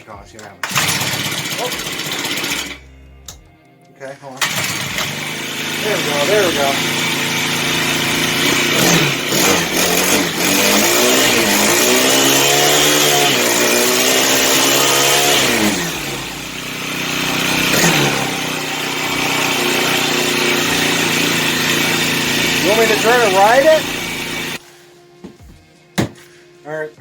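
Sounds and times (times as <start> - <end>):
small engine revving and idling: 0.6 - 3.2, 4.4 - 24.6.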